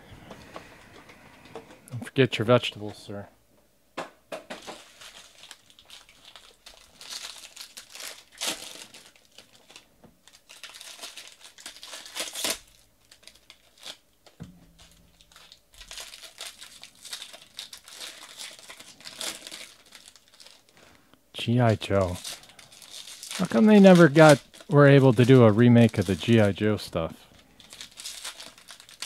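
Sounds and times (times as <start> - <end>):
foil wrapper crinkling and ripping: 4.5 - 29.0.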